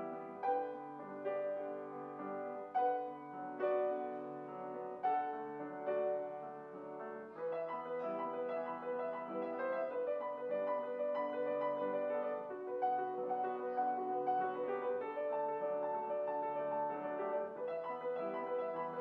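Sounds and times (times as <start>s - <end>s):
grand piano playing: 0.0s - 19.0s.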